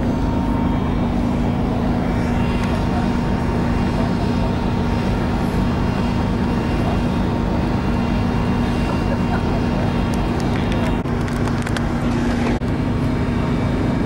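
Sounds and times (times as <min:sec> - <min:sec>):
ship machinery humming: 0:00.0 - 0:14.0.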